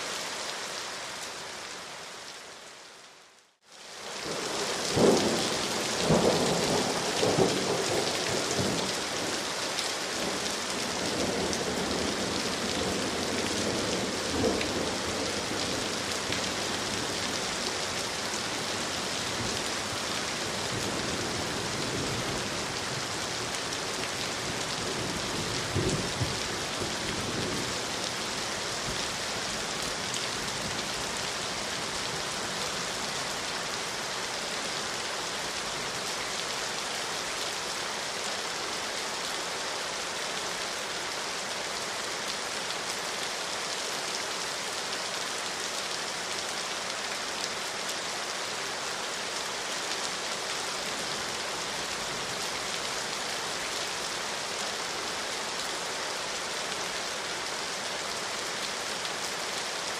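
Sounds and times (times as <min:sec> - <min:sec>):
rain on leaves and ground: 0:00.0 - 0:59.9.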